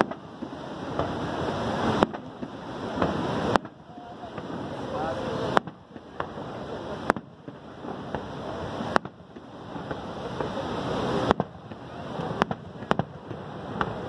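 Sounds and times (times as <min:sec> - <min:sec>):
fireworks bangs: 0:00.0 - 0:14.0
waterfall rushing: 0:00.0 - 0:14.0.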